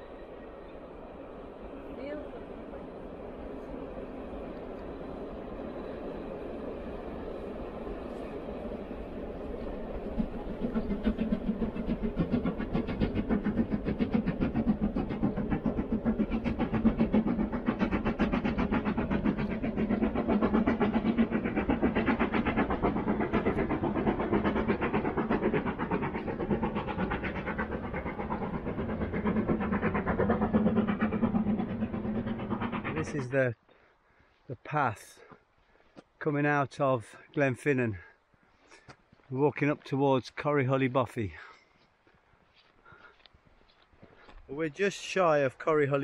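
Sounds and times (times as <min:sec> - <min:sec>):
steam locomotive chuffing: 0:00.0 - 0:35.4, 0:36.4 - 0:41.6, 0:42.4 - 0:46.0.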